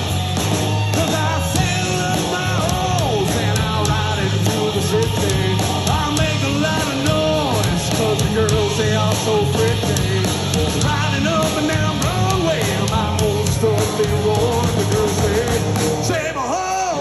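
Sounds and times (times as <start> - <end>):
live country rock band: 0.0 - 17.0
voices singing into microphones: 0.9 - 17.0.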